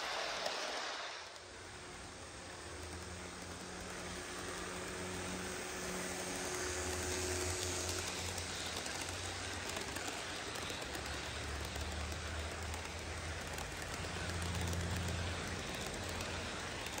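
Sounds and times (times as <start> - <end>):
model train wheels on rails: 0.0 - 17.0.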